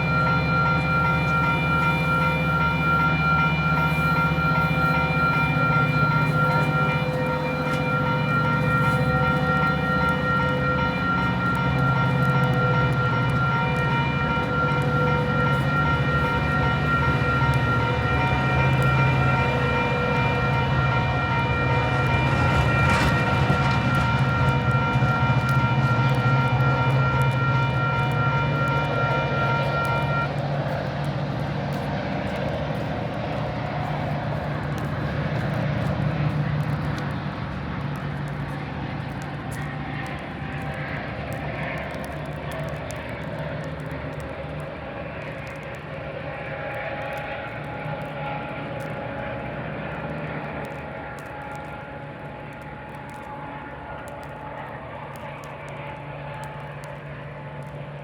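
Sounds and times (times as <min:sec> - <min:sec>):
diesel train engine humming: 0:00.0 - 0:58.0.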